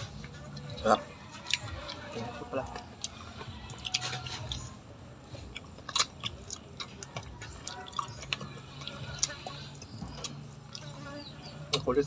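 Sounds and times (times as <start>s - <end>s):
person chewing and crunching: 0.0s - 11.9s.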